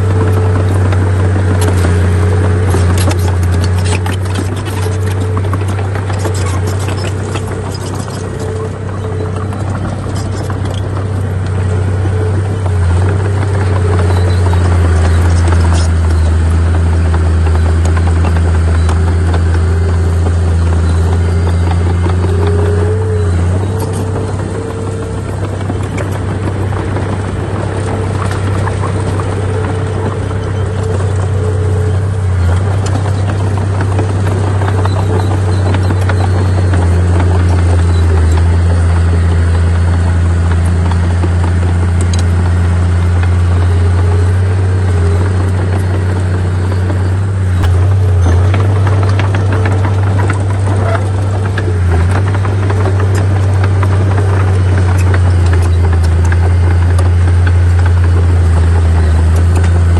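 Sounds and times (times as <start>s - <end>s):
heavy diesel engines droning: 0.0s - 59.9s
high machinery whine: 0.0s - 59.9s.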